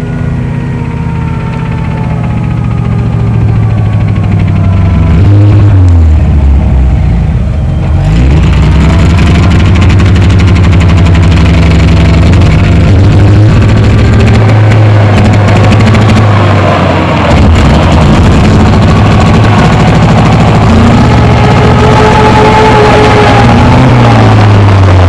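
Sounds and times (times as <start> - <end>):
misfiring engine running: 0.0 - 25.0.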